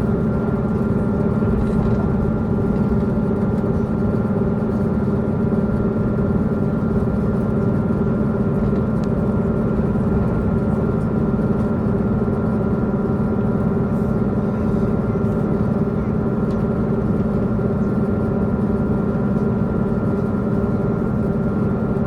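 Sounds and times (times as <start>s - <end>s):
diesel engine humming: 0.0s - 18.2s
train running rumble: 0.0s - 22.0s.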